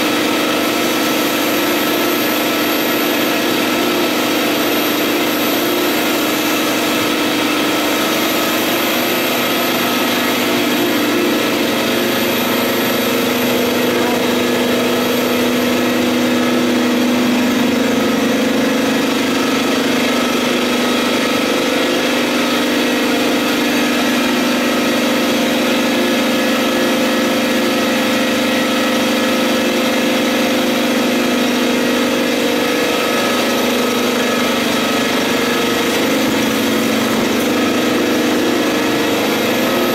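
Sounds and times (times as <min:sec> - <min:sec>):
printer mechanical drone: 0:00.0 - 0:39.9.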